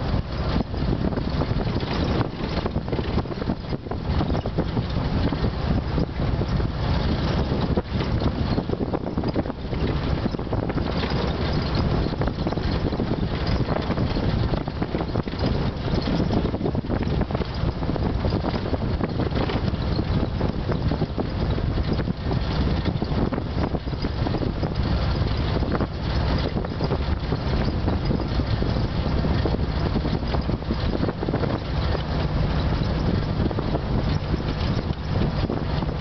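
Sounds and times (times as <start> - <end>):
atv engine running: 0.0 - 36.0
knocks and rattles: 0.0 - 36.0
wind buffeting microphone: 0.0 - 36.0.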